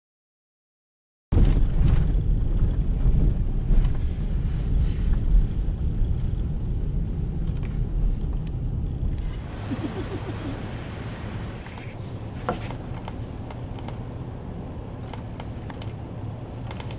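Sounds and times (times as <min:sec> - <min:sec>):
wind buffeting microphone: 0:01.3 - 0:16.8.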